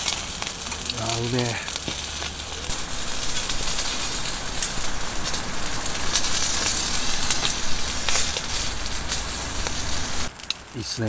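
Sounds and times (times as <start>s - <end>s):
fat popping: 0.0s - 10.8s
chicken sizzling on a griddle: 0.0s - 11.0s
gas burner flame: 0.0s - 11.0s.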